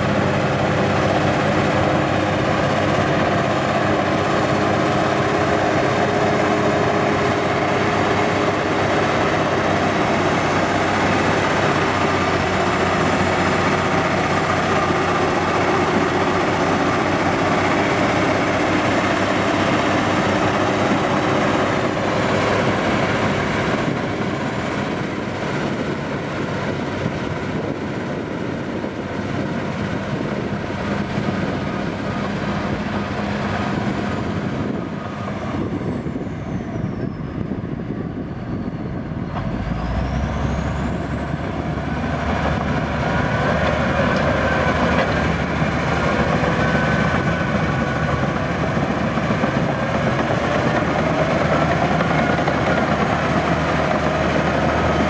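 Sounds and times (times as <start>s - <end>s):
steel tracks clattering: 0.0s - 36.8s, 38.6s - 55.0s
bulldozer diesel engine under load: 0.0s - 55.0s.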